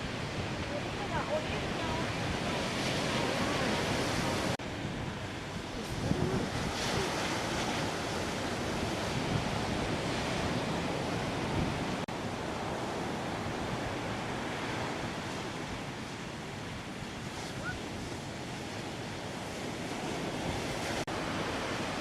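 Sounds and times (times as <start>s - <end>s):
waves breaking: 0.0s - 22.0s
wind buffeting microphone: 0.0s - 22.0s.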